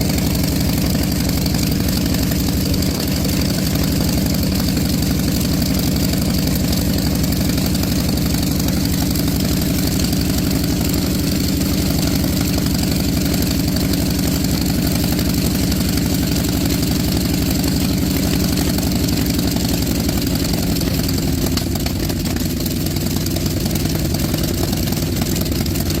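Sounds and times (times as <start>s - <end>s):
radial engine running: 0.0s - 26.0s.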